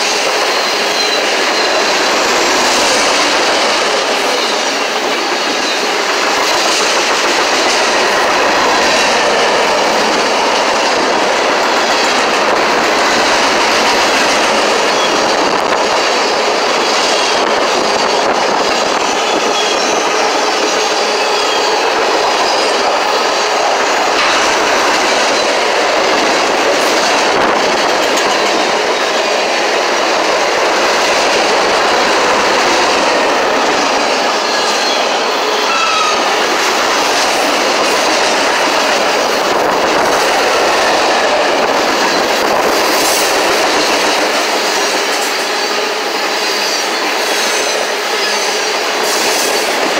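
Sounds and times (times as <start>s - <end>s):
clickety-clack over rail joints: 0.0s - 49.9s
train wheels rushing on rail: 0.0s - 49.9s.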